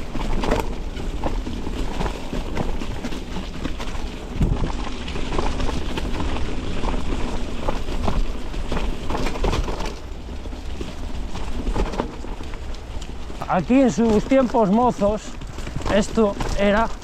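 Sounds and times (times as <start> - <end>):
bike rattling and knocking: 0.0 - 17.0
tyres crunching on dirt trail: 0.0 - 17.0
wind rumbling on microphone: 0.0 - 17.0.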